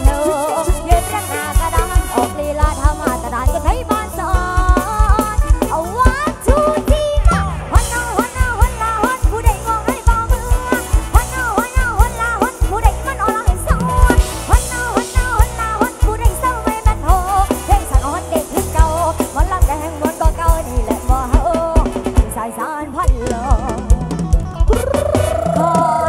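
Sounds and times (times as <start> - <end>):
sliding lead melody: 0.0 - 26.0.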